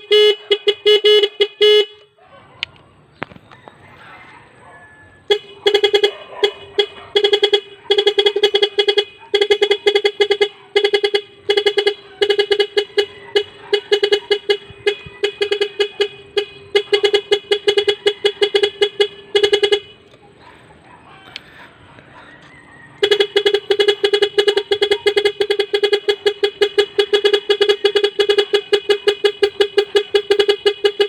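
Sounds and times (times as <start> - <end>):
electronic bicycle horn beeping: 0.0 - 2.1, 5.2 - 20.2, 23.0 - 31.0.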